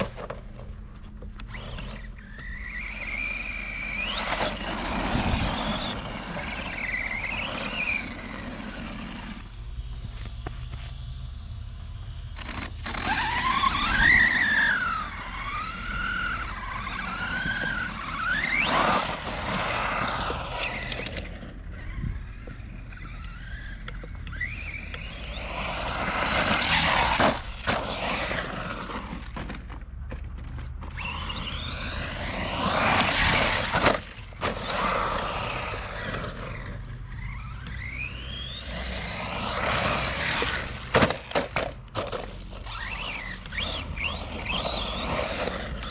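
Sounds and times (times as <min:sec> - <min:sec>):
tyres scrabbling over dirt: 0:00.0 - 0:09.4, 0:12.4 - 0:45.9
electric motor whining: 0:01.0 - 0:29.6, 0:30.8 - 0:45.9.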